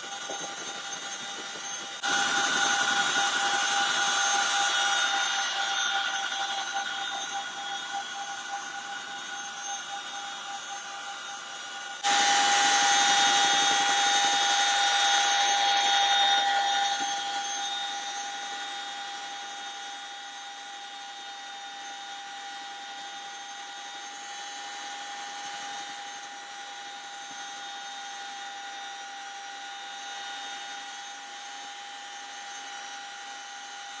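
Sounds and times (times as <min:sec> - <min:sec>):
helicopter engines and rotors: 0:00.0 - 0:34.0.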